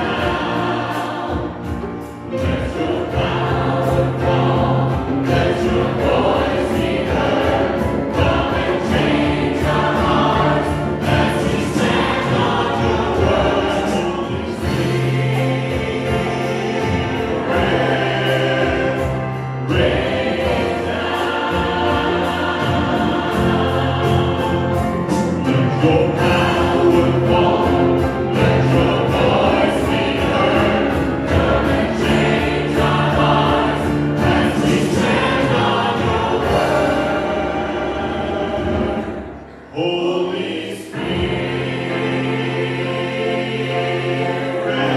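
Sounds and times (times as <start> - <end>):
drum kit: 0.0 - 39.4
choir singing: 0.0 - 44.9.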